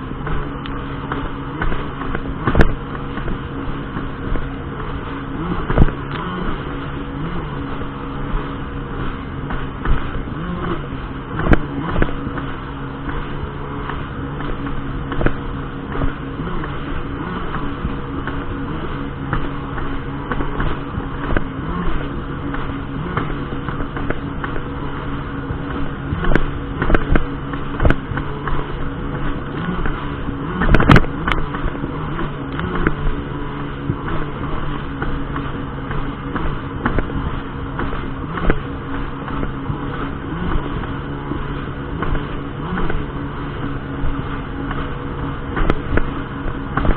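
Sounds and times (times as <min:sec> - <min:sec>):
jet ski engine running: 0:00.0 - 0:46.9.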